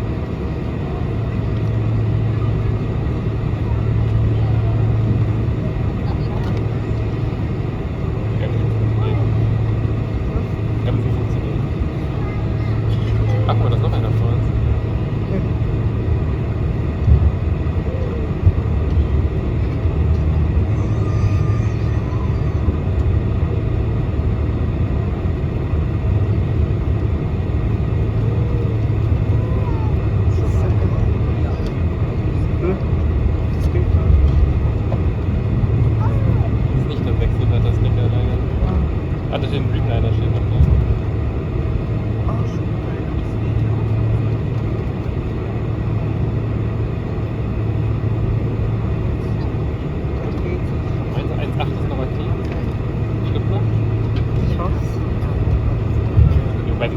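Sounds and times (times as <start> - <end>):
aircraft engines idling: 0.0 - 56.9
airplane cabin rumble while taxiing: 0.0 - 56.9.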